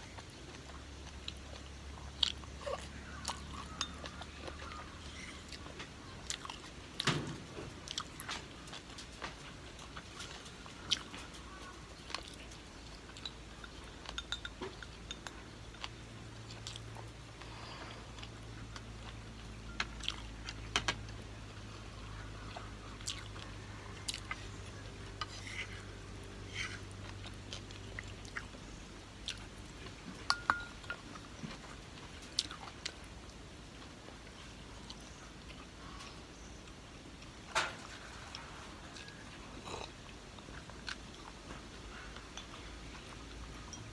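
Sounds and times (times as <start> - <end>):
chewing and wet mouth noises: 0.0 - 43.9
faint low hum: 0.0 - 43.9.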